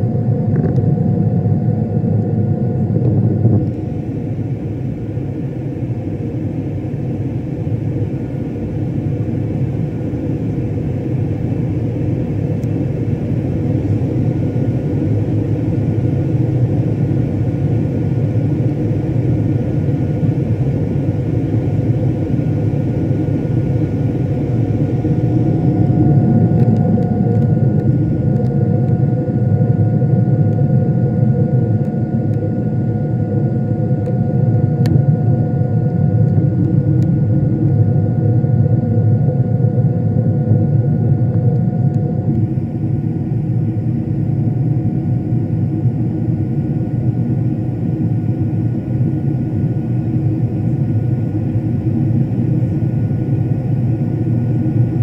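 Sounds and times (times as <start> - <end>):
faint steady whine: 0.0 - 55.0
jet engine rumble and airflow: 0.0 - 55.0.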